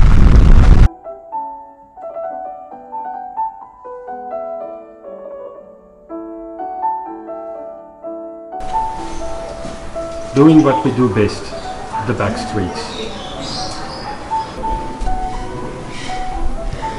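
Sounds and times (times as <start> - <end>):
gentle solo piano melody: 0.9 - 16.9.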